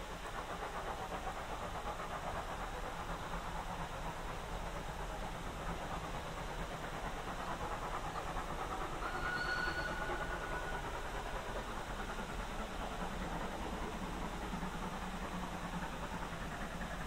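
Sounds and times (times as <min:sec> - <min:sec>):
steam locomotive exhaust beating: 0:00.0 - 0:17.0.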